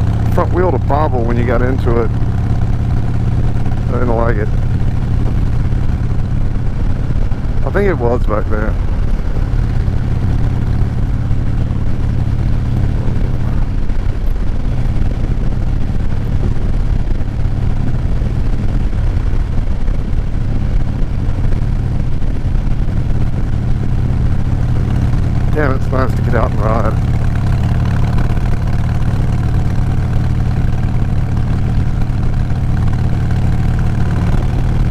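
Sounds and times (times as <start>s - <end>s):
motorcycle engine running: 0.0s - 34.9s
wind and road noise: 0.0s - 34.9s.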